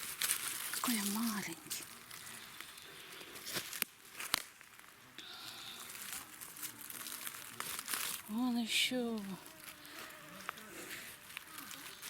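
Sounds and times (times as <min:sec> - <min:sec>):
twigs snapping: 0:00.0 - 0:04.9, 0:05.8 - 0:12.0
dry leaves rustling: 0:00.0 - 0:12.0.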